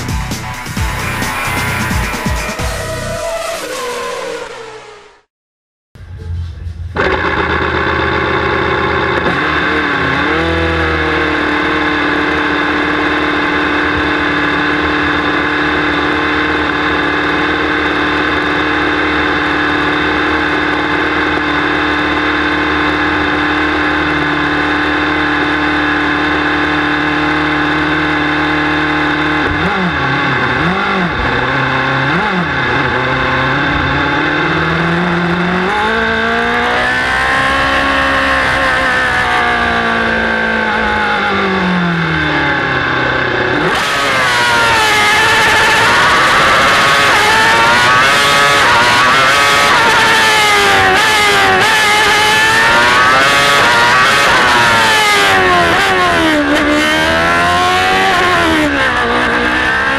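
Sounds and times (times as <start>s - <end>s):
racing car engine idling and revving: 0.0s - 5.3s, 6.0s - 59.9s.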